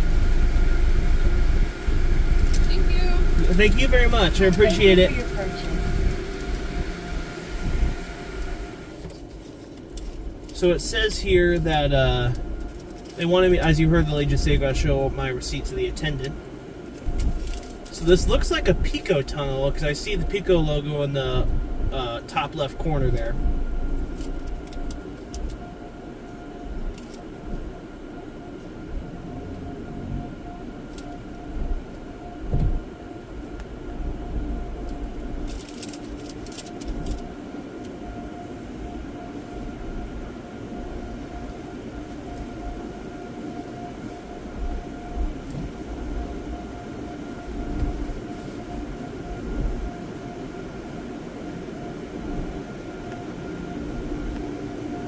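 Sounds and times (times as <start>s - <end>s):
low rumble: 0.0s - 50.8s
car wash machinery whine: 0.0s - 55.0s.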